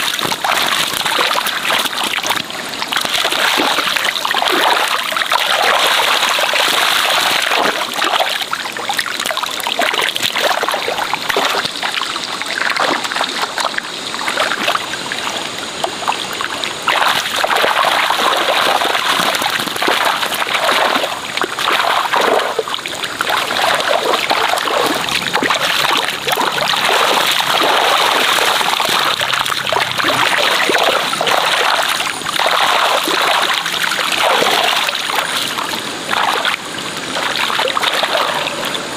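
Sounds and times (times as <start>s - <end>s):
muddy water splashing: 0.0s - 38.9s.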